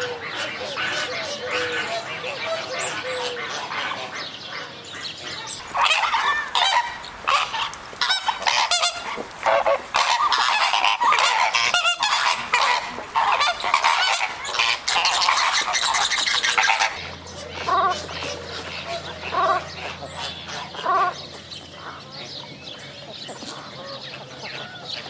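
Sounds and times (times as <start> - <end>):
flamingos honking: 0.0 - 25.0.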